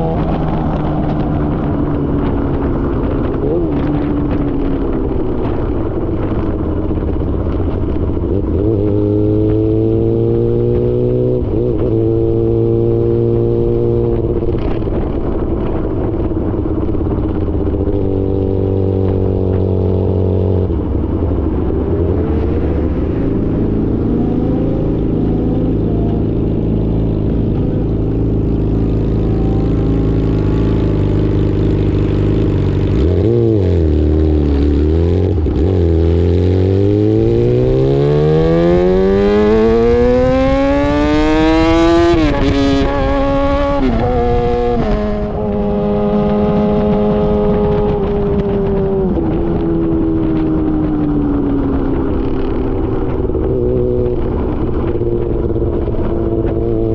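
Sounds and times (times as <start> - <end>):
motorcycle engine revving and shifting: 0.0 - 56.9.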